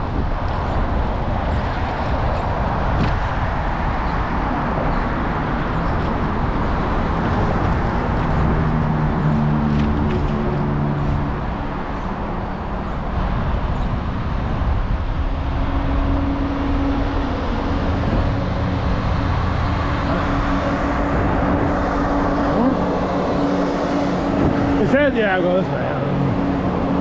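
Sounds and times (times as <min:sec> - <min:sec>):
road traffic noise: 0:00.0 - 0:27.0
vehicle engine humming: 0:00.0 - 0:27.0.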